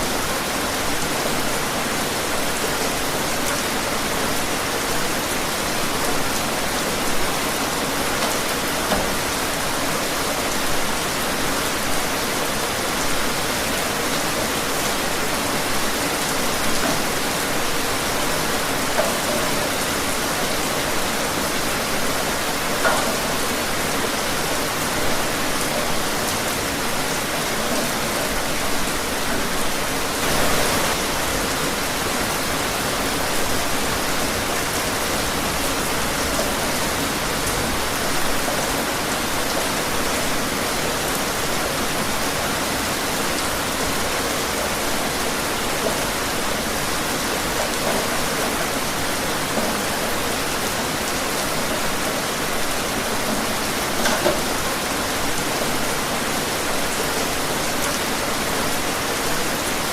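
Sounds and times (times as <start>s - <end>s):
rain falling outdoors: 0.0s - 59.9s.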